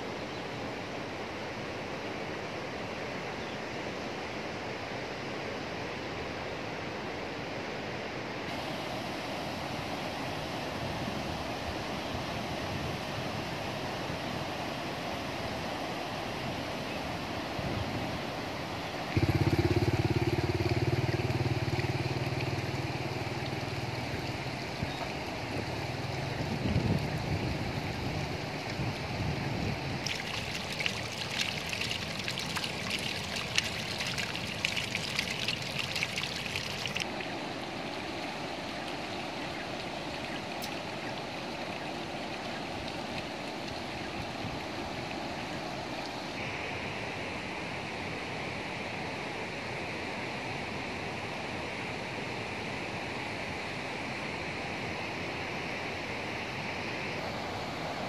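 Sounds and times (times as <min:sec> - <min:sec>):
stream rushing over rocks: 0:04.2 - 0:58.0.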